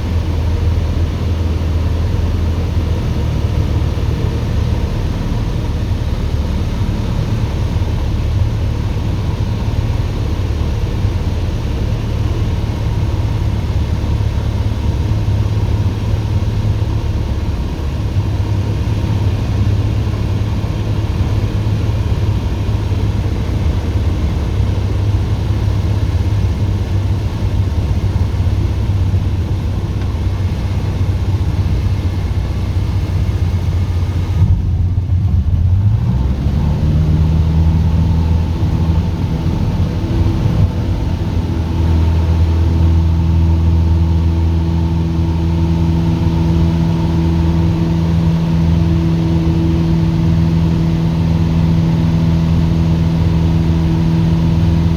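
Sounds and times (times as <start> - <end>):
light aircraft piston engine: 0.0 - 54.9.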